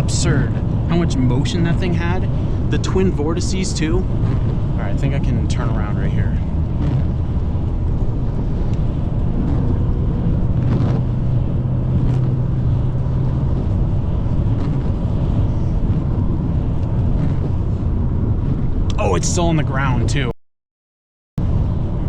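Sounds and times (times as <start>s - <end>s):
car engine and road noise: 0.0s - 20.3s, 21.4s - 22.0s.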